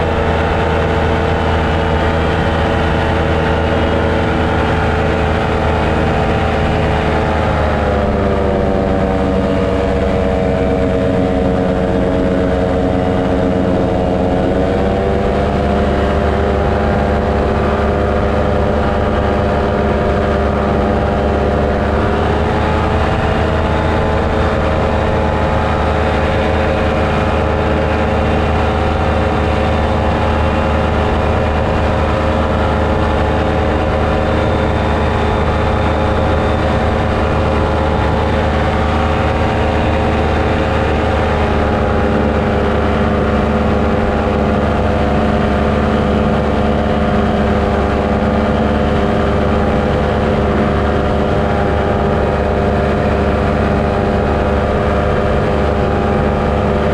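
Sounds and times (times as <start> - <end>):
paramotor engine and propeller: 0.0 - 56.9.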